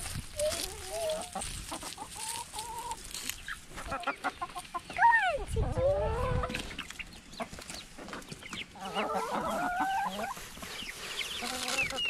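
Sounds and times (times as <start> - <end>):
hens clucking: 0.3 - 12.0.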